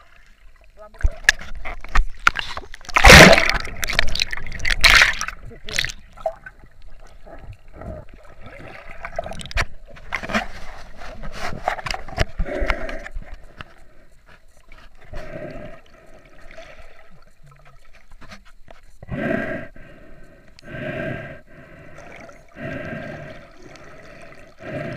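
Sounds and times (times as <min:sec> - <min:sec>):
muffled underwater splashing: 0:00.0 - 0:24.9.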